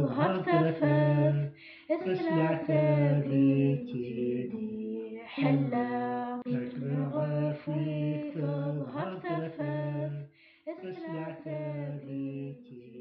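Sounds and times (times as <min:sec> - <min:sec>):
person singing folk song: 0:00.0 - 0:13.0.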